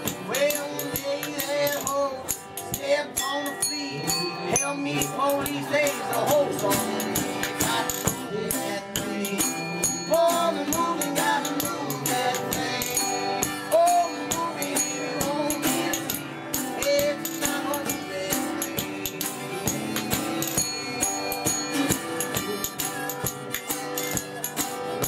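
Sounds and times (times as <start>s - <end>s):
acoustic guitars: 0.0s - 25.0s.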